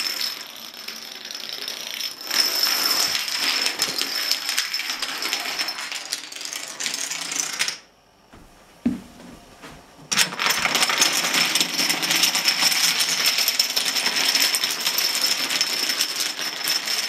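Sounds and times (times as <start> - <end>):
dominoes toppling clatter: 0.0 - 7.8, 10.1 - 17.0.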